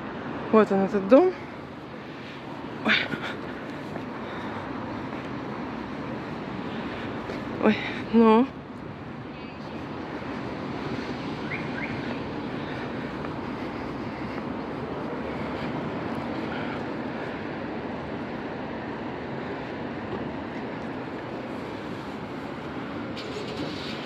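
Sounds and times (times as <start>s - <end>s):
city street traffic rumble: 0.0s - 24.0s.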